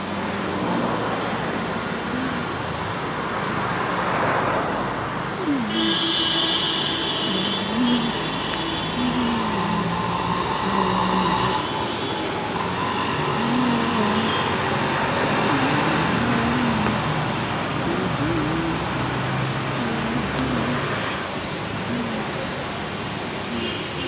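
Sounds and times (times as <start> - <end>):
street traffic roar: 0.0 - 24.0.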